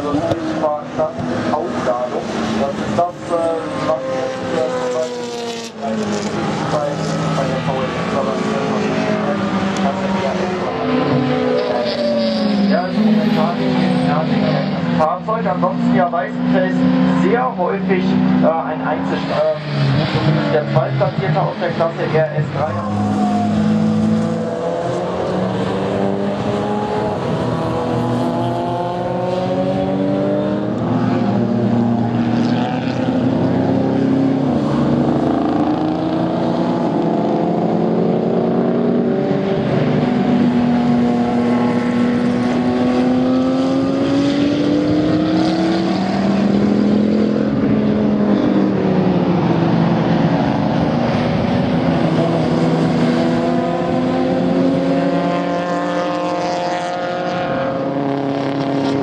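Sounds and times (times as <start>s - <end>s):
racing car engines: 0.0s - 59.0s.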